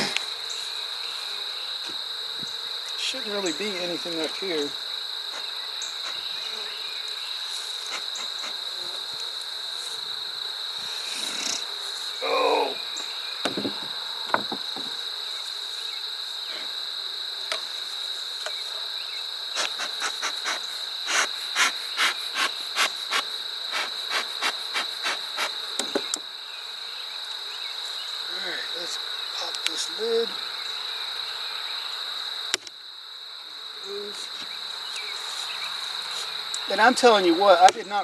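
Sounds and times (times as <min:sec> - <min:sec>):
insects chirring: 0:00.0 - 0:38.0.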